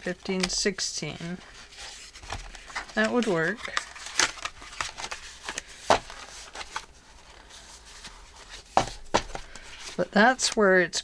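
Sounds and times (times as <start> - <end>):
paper rustling: 0.0 - 10.6.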